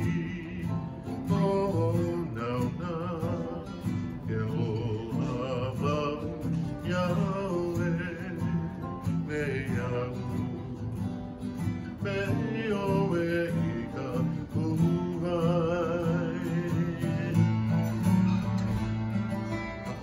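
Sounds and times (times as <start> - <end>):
man singing: 0.0 - 19.1
acoustic guitars strummed: 0.0 - 20.0.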